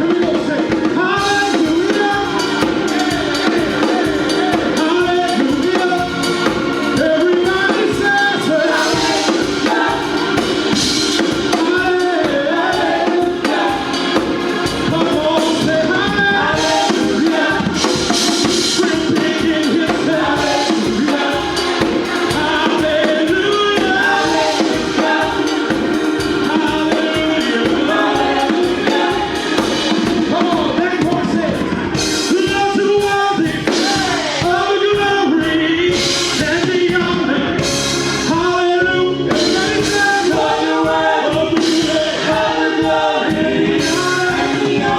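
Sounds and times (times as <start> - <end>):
band playing worship music: 0.0 - 44.9
drum kit steady beat: 0.0 - 44.9
person singing: 0.0 - 44.9.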